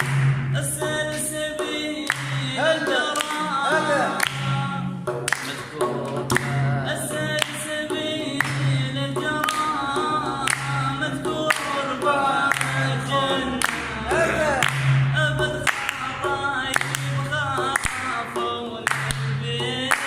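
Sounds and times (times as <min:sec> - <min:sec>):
sharp percussive hits: 0:00.0 - 0:20.0
man singing folk song: 0:00.6 - 0:04.9, 0:05.7 - 0:20.0.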